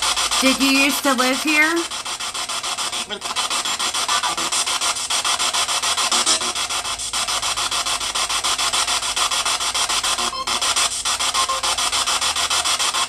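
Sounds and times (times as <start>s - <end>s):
pulsing radio static: 0.0s - 13.0s.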